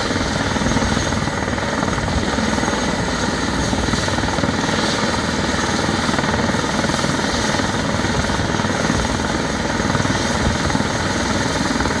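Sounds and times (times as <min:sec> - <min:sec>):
helicopter rotor whirring: 0:00.0 - 0:12.0.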